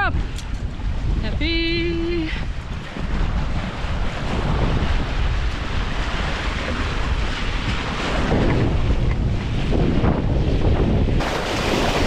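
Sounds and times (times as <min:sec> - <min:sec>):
choppy sea washing: 0:00.0 - 0:12.0
wind buffeting microphone: 0:00.0 - 0:12.0.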